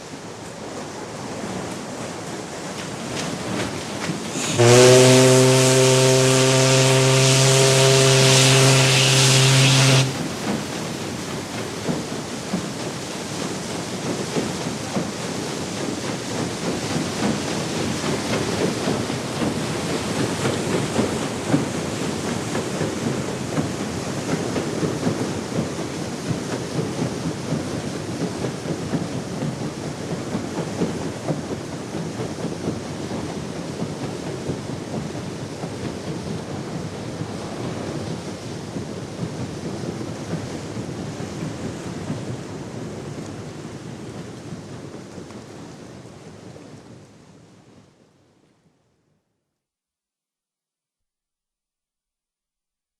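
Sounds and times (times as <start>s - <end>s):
paddlewheels churning water: 0.0s - 48.5s.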